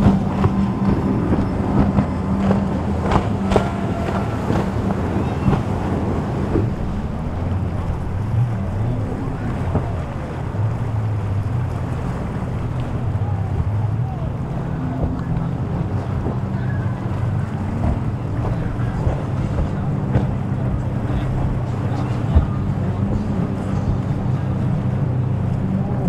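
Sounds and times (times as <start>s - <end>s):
motorboat engines droning: 0.0s - 26.0s
waves washing: 0.0s - 26.0s
wind buffeting microphone: 0.0s - 26.0s.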